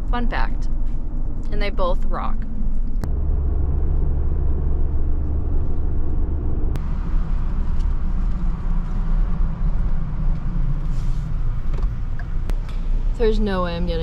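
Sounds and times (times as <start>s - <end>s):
engine and road noise in a cab: 0.0s - 14.0s.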